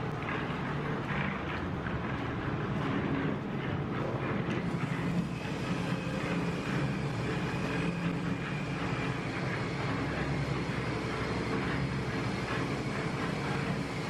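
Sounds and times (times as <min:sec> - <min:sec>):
engine drone: 0:00.0 - 0:14.0.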